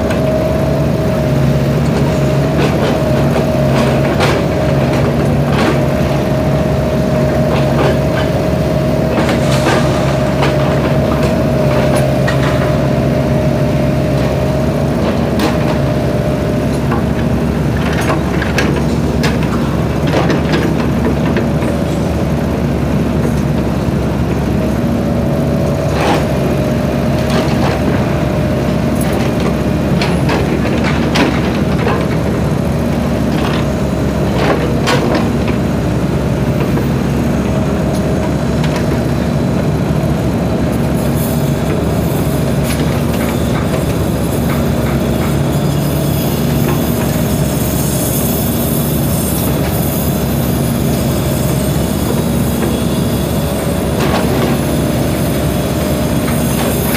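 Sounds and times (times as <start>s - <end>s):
excavator diesel engine running: 0.0s - 56.9s
hydraulic whine: 0.0s - 56.9s.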